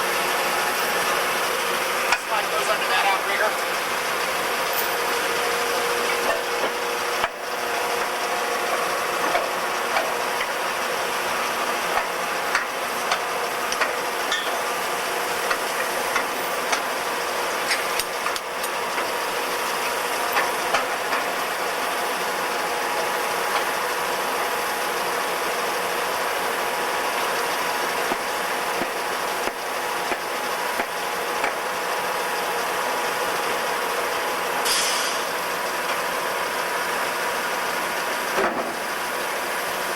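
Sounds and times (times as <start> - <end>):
pump engine and hydraulic drone: 0.0 - 39.9.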